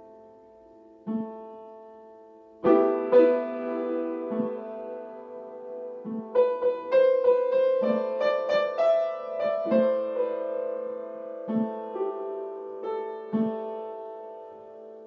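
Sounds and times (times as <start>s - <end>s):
solo piano improvisation: 0.0s - 15.0s.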